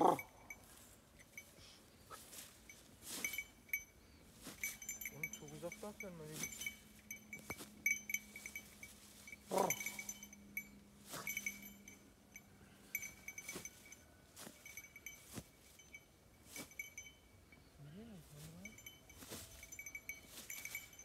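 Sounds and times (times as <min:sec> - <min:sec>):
small collar bell tinkling: 0:00.0 - 0:21.0.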